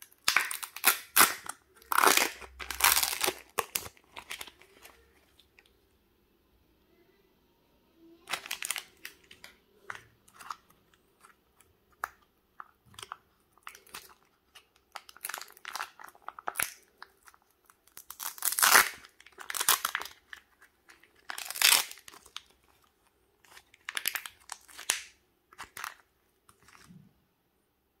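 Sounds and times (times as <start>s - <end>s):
plastic wrappers crinkling: 0.0s - 5.7s, 8.2s - 27.0s.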